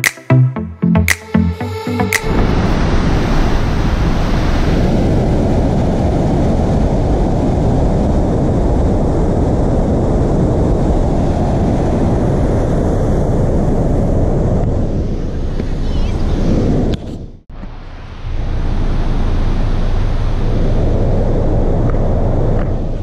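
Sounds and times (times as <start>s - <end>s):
wind on microphone: 1.8s - 23.0s.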